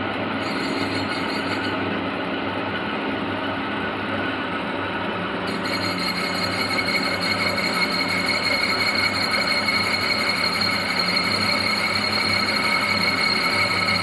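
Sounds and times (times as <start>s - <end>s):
metalworking machine humming and whining: 0.0s - 14.0s.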